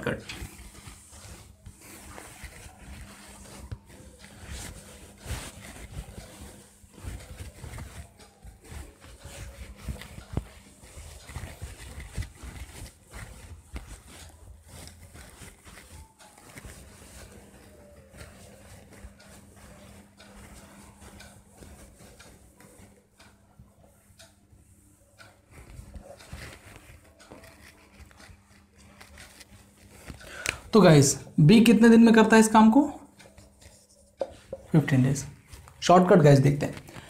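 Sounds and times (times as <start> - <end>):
duster rubbing whiteboard: 0.0 - 30.2, 33.2 - 36.2.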